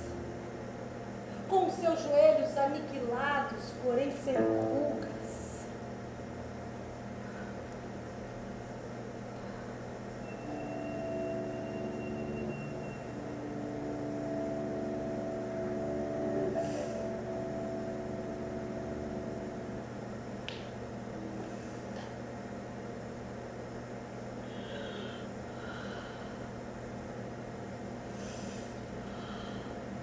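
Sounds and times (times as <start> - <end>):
low droning held tones: 0.0 - 3.2, 6.9 - 30.0
constant hum: 0.0 - 30.0.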